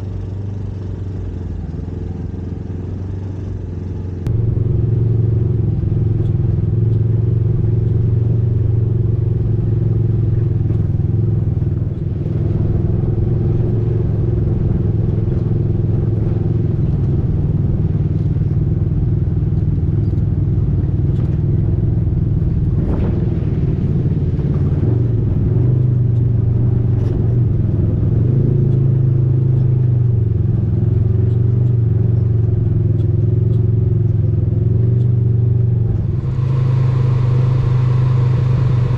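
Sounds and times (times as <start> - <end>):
off-road vehicle engine running: 0.0 - 38.9.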